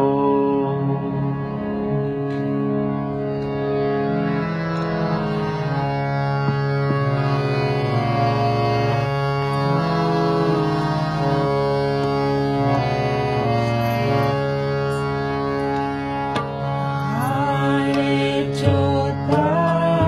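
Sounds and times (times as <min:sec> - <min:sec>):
harmonium playing slow melody: 0:00.0 - 0:20.0.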